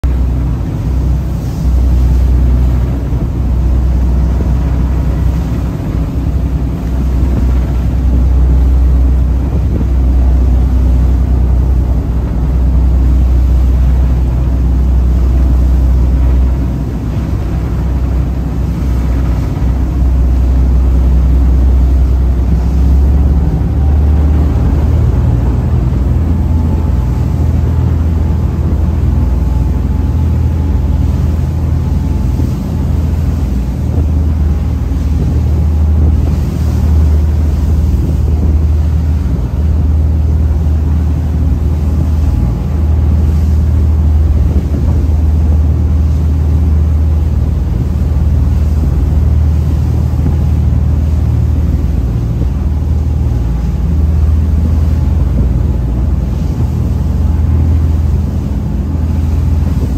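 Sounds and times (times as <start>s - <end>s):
diesel engines droning: 0.0s - 59.9s
wake rushing: 0.0s - 59.9s.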